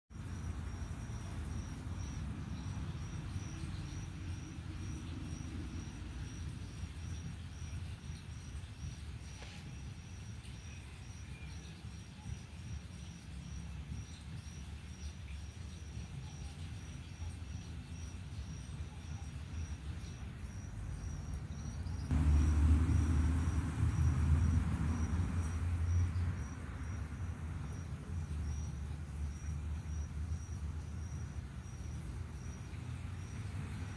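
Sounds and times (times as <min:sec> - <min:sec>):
insect chirping: 0:00.2 - 0:33.9.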